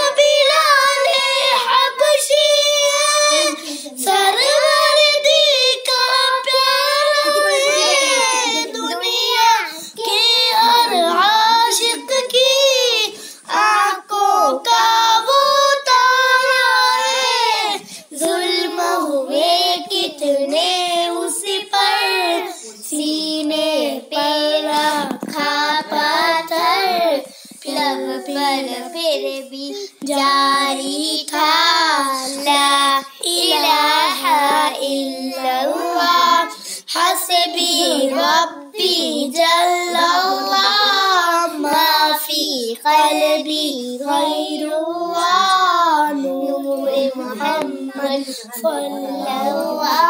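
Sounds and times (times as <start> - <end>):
children singing unaccompanied: 0.0 - 50.0.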